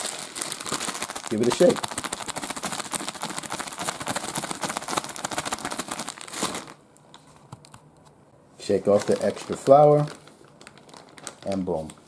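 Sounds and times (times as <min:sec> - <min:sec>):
plastic bag crinkling: 0:00.0 - 0:06.8, 0:08.6 - 0:12.0.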